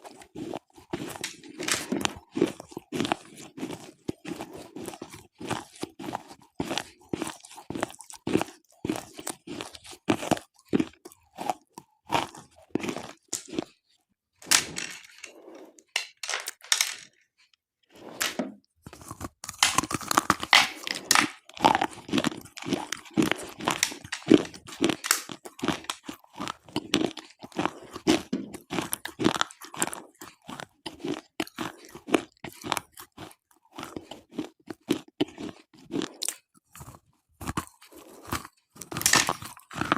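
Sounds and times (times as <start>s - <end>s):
crunching and snapping chewing: 0.0s - 14.0s, 18.7s - 39.9s.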